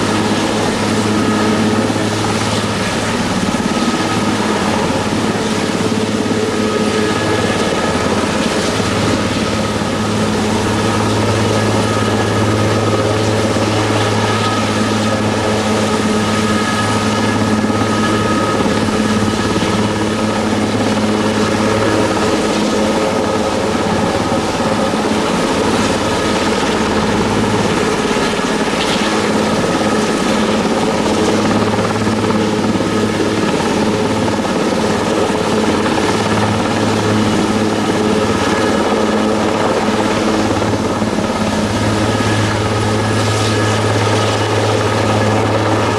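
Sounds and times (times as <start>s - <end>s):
helicopter hovering: 0.0s - 45.9s
turbine engine whine: 0.0s - 45.9s.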